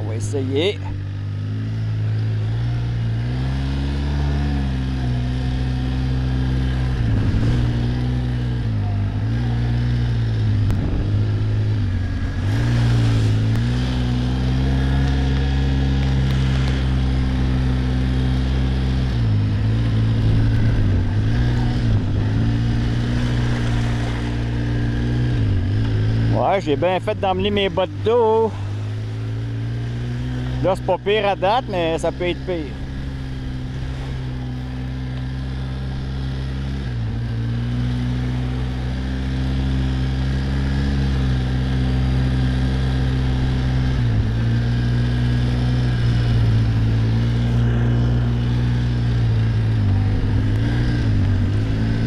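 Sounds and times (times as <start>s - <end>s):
quad bike engine running: 0.0s - 52.0s.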